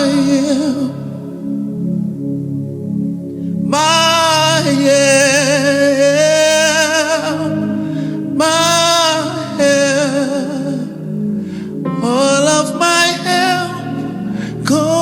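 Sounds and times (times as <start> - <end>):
solo voice singing gospel: 0.0 - 15.0
sustained low accompaniment chords: 0.0 - 15.0.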